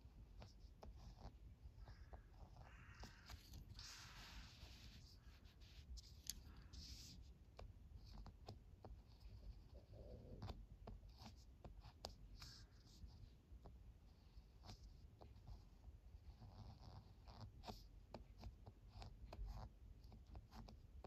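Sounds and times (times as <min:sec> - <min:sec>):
ballpoint pen writing on paper: 0:00.2 - 0:21.0.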